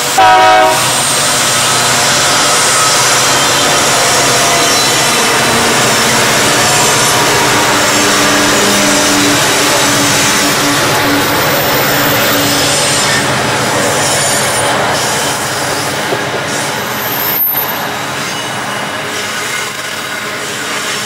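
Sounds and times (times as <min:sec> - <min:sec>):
diesel locomotive hum: 0:00.0 - 0:21.0
freight wagons rumbling on rails: 0:00.0 - 0:21.0
wheel squeal: 0:01.0 - 0:21.0.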